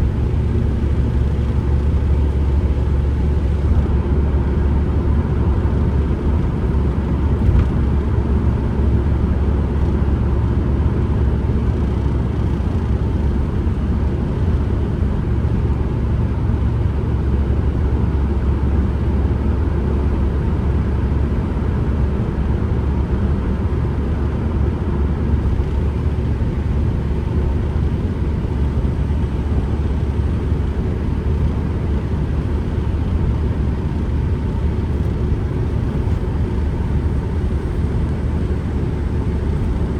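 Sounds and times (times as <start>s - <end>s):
van driving heard from cabin: 0.0s - 39.9s.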